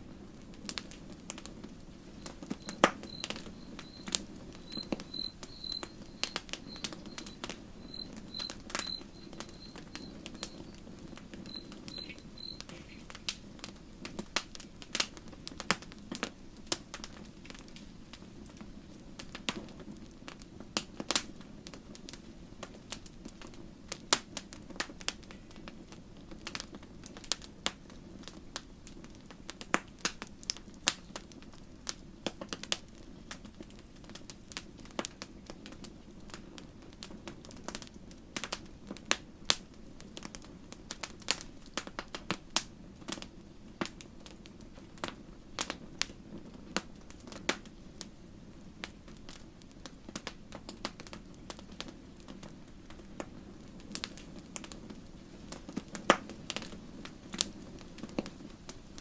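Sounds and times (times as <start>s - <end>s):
campfire crackling and popping: 0.0s - 59.0s
low rumble of burning fire: 0.0s - 59.0s.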